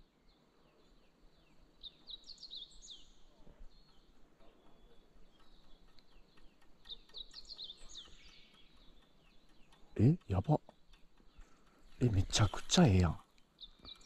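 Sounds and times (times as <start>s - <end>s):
songbird chirping: 0.0s - 14.0s.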